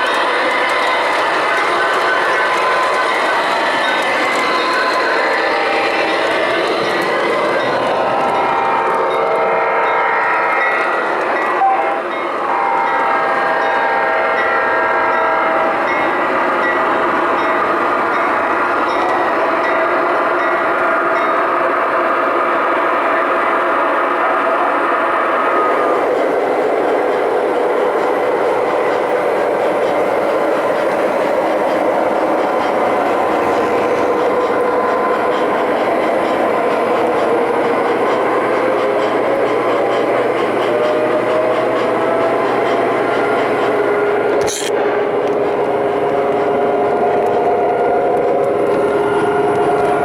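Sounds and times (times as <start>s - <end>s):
model train locomotive sounds: 0.0s - 50.0s
model train rumbling: 0.0s - 50.0s.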